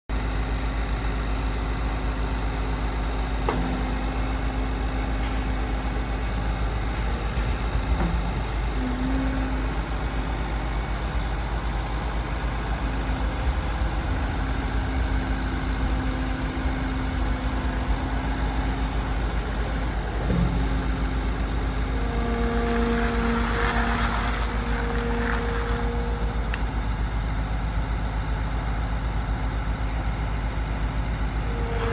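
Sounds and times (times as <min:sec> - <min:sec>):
diesel engine idling: 0:04.3 - 0:31.8.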